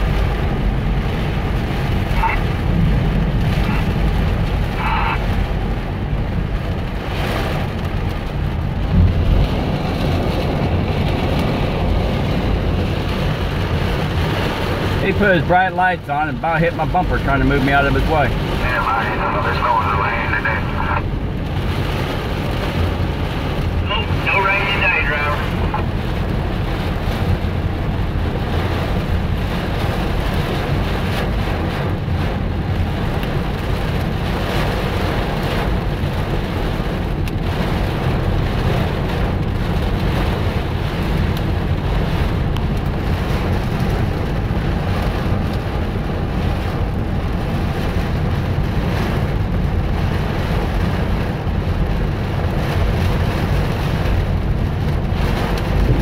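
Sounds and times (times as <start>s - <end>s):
deep road rumble: 0.0s - 56.0s
heavy rain on a car roof: 0.0s - 56.0s.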